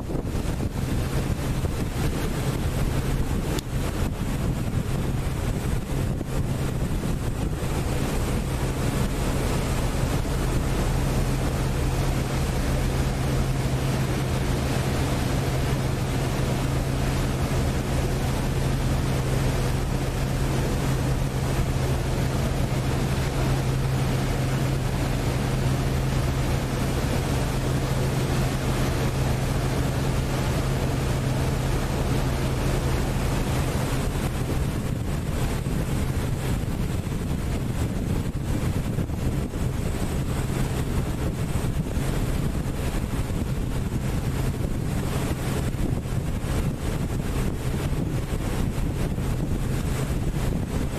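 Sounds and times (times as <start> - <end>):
boat engine humming: 0.0 - 50.9
rush of wind and water: 0.0 - 50.9.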